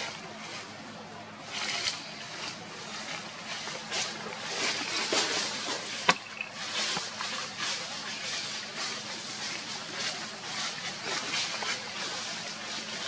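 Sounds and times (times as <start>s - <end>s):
fluctuating hiss: 0.0s - 13.0s.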